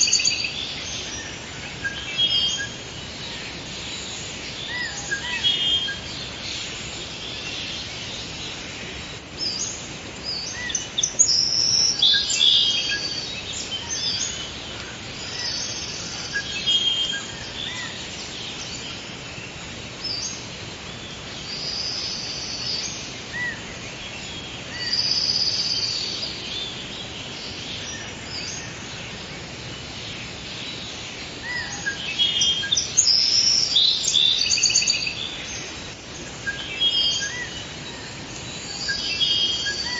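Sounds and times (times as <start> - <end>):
birds chirping and singing: 0.0 - 39.9
steady background hiss: 0.0 - 39.9.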